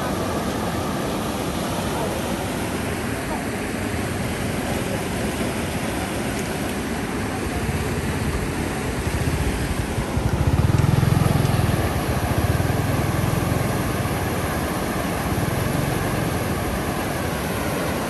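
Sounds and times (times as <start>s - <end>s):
steady background noise: 0.0s - 18.0s
engine running: 3.0s - 18.0s.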